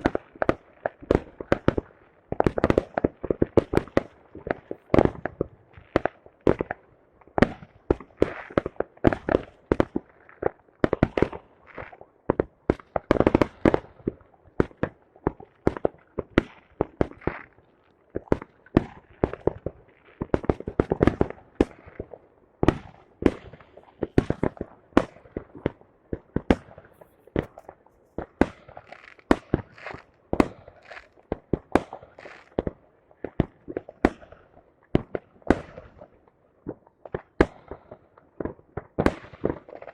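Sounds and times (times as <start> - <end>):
fireworks bangs and cracks: 0.0 - 6.8, 7.4 - 17.6, 18.2 - 39.9.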